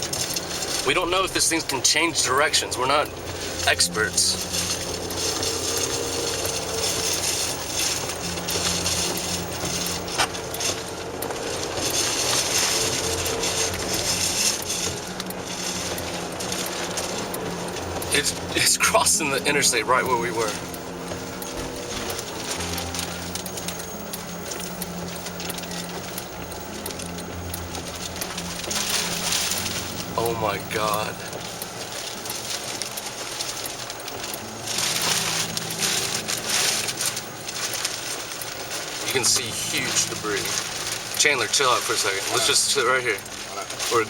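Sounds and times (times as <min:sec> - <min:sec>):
low engine hum: 0:00.0 - 0:44.0
road and wind noise: 0:00.0 - 0:44.0.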